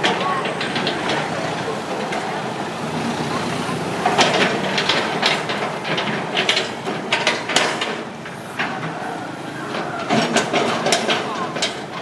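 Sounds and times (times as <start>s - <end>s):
excavator diesel engine running: 0.0s - 12.0s
machine clanks and rattles: 0.0s - 12.0s.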